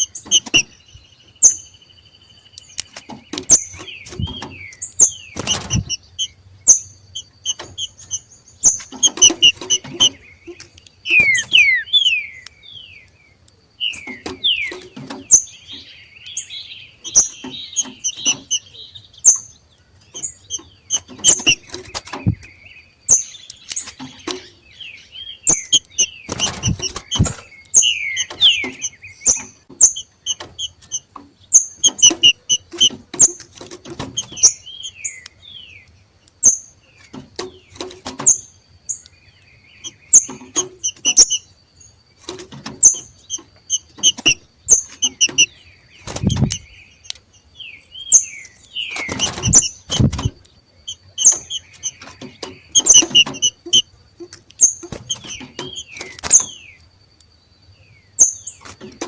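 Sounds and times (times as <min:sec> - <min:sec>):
birds chattering: 0:00.0 - 0:59.0.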